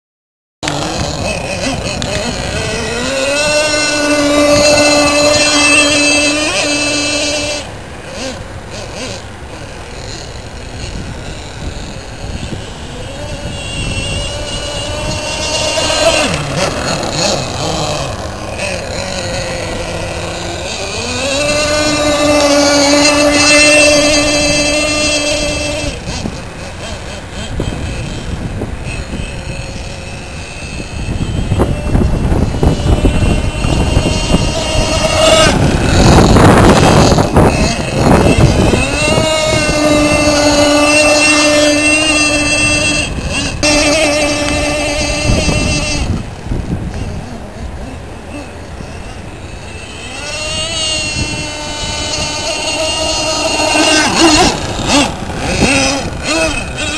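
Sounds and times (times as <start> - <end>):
model boat engine running: 0.6 - 56.9
wind buffeting microphone: 0.6 - 56.9.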